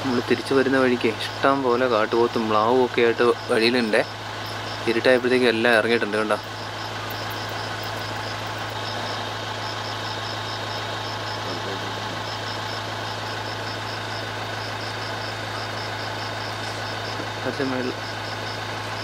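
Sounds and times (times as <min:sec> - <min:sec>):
vehicle engine idling: 0:00.0 - 0:19.0
high chirping pulses: 0:03.1 - 0:19.0.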